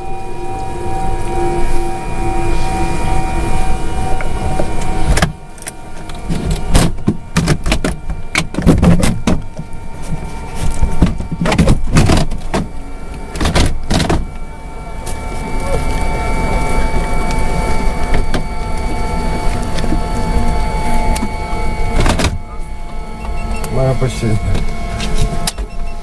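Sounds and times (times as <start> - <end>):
turboprop engines whining: 0.0 - 26.0.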